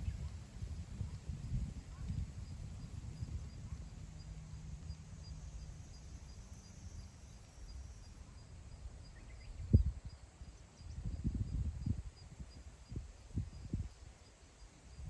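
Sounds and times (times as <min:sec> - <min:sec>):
wind buffeting microphone: 0:00.0 - 0:07.4, 0:08.9 - 0:10.2, 0:10.8 - 0:14.2.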